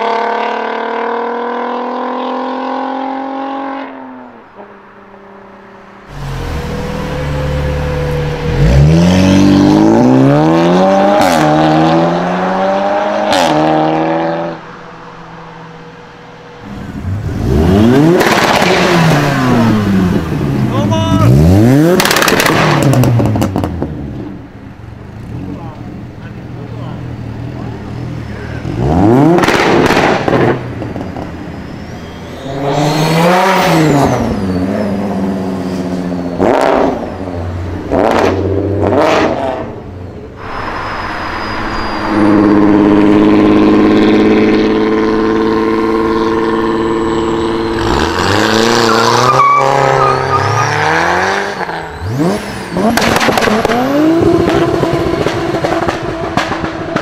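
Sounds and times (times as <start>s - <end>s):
car engines accelerating hard: 0.0s - 57.0s
engines at steady revs: 5.8s - 40.6s, 41.2s - 57.0s.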